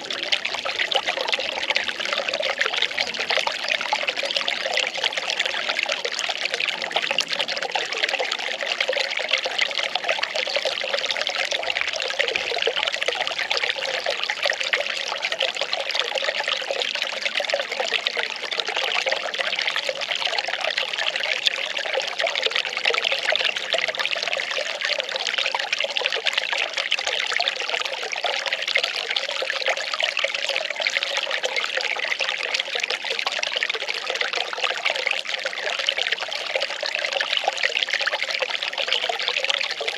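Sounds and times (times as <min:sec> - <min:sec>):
water pouring and trickling: 0:00.0 - 0:39.9.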